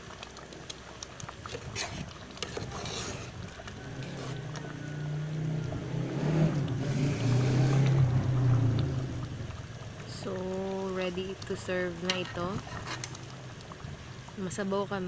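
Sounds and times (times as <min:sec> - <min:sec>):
sauce boiling in a pot: 0:00.0 - 0:15.0.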